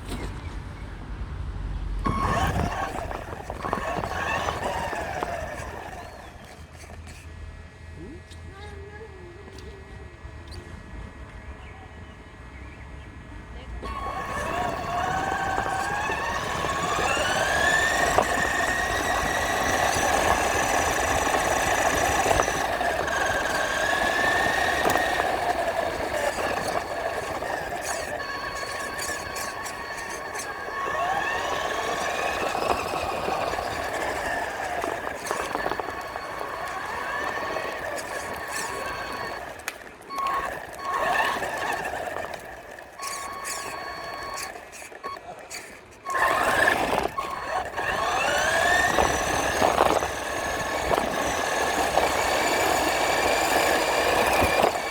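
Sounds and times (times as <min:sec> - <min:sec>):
electric motor whining: 0:01.9 - 0:12.5, 0:13.6 - 0:54.9.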